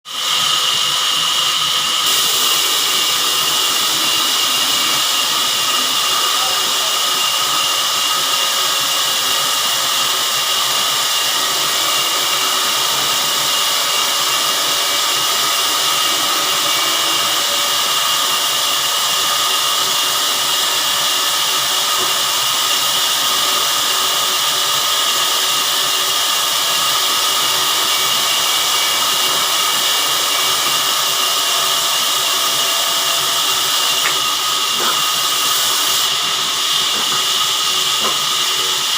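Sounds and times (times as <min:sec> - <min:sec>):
sawmill machinery whirring: 0:00.1 - 0:38.9.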